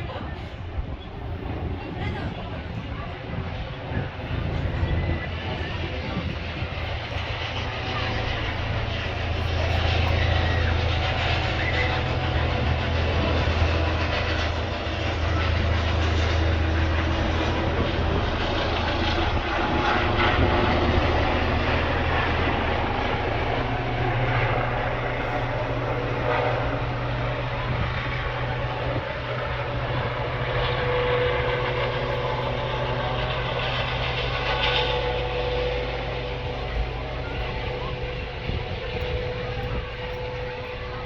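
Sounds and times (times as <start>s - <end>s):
helicopter rotor and turbine: 0.0s - 41.0s.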